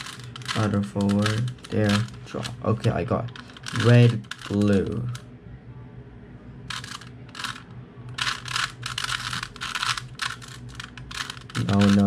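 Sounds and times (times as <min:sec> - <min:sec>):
puzzle cube clicking as twisted: 0:00.0 - 0:02.6, 0:03.3 - 0:05.2, 0:06.7 - 0:12.0.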